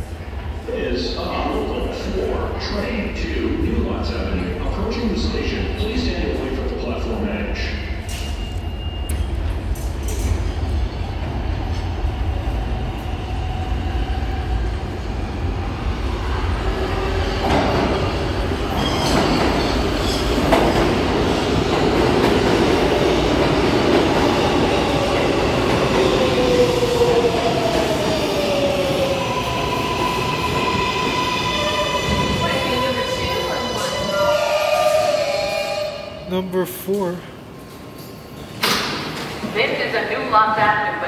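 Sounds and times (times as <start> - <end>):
subway train wheels rumbling on rails: 0.0 - 36.3, 36.9 - 41.0.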